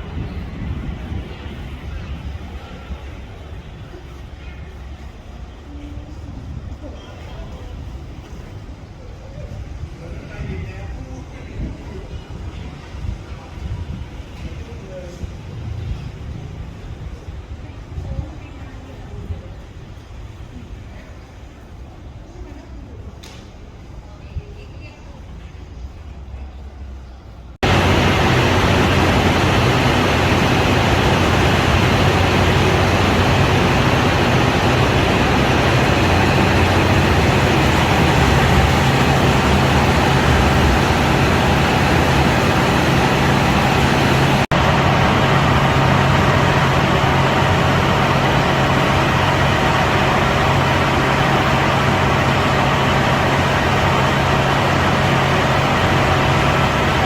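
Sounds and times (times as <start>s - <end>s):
diesel railcar engine droning: 0.0s - 23.0s, 25.2s - 57.0s.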